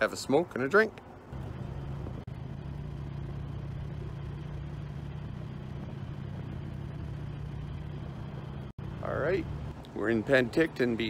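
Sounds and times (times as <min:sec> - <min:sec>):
wind and road noise: 0:00.0 - 0:11.0
motorcycle engine cruising: 0:01.3 - 0:11.0.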